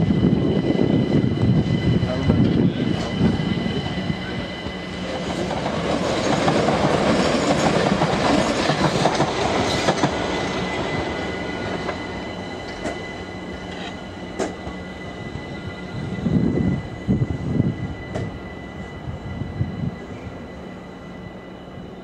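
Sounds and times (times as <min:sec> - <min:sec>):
high wheel squeal: 0:00.0 - 0:06.5, 0:09.4 - 0:22.0.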